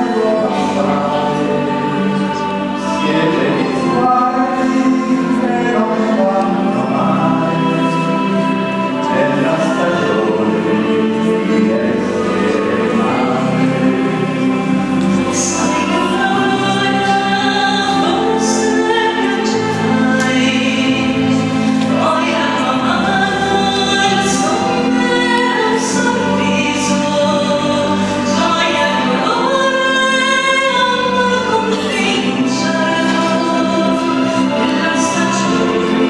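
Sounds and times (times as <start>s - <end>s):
mixed choir singing: 0.0s - 36.0s.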